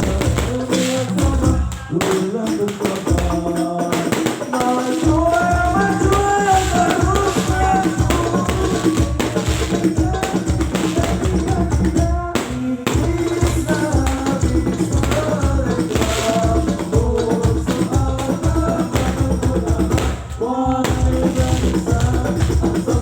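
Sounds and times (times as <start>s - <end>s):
devotional singing: 0.0s - 23.0s
frame drum rhythm: 0.0s - 23.0s.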